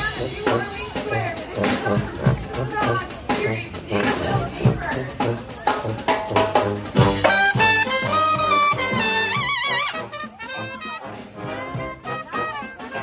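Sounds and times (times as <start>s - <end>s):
marching brass band playing jazz: 0.0s - 13.0s.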